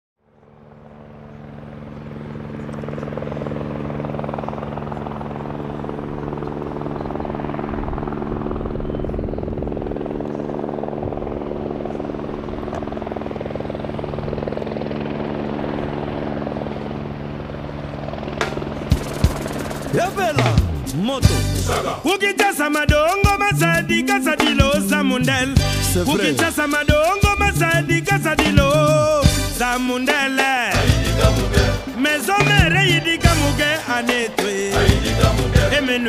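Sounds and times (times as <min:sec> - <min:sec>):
helicopter rotor and engine drone: 0:00.2 - 0:36.0.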